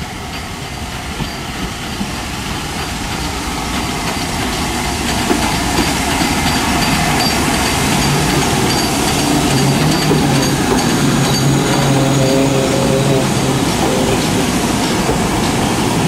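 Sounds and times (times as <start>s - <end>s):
steam locomotives passing: 0.0s - 16.0s.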